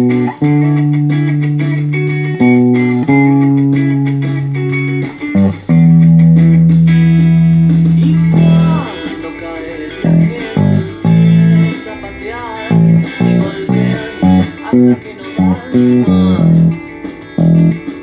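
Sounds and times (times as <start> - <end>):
electric bass plucked notes: 0.0 - 18.0.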